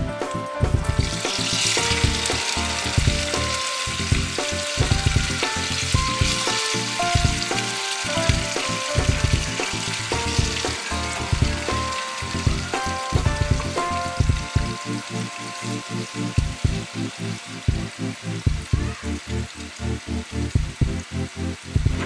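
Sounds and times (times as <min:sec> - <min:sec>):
background music with steady beat: 0:00.0 - 0:22.0
chicken sizzling in hot oil: 0:00.0 - 0:22.0.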